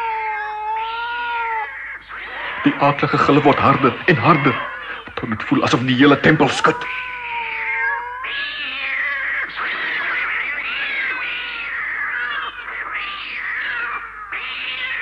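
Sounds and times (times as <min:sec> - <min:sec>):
cats yowling and screeching: 0:00.0 - 0:15.0.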